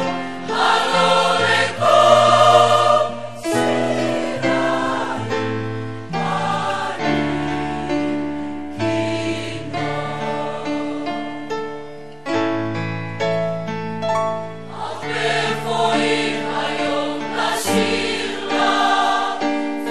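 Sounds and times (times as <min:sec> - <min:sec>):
mixed choir singing in harmony: 0:00.0 - 0:11.8, 0:14.4 - 0:19.9.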